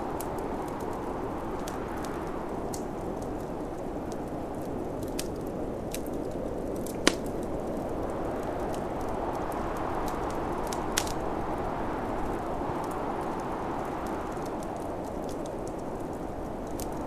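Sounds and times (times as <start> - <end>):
snowstorm wind rushing: 0.0 - 17.0
wood fire crackling and popping: 0.0 - 17.0.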